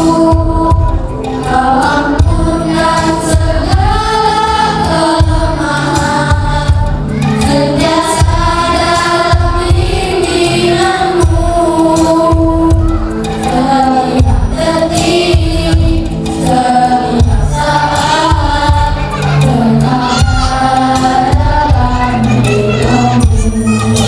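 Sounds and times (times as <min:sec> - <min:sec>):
boys singing into microphone: 0:00.0 - 0:24.0
instrumental backing with beat: 0:00.0 - 0:24.0.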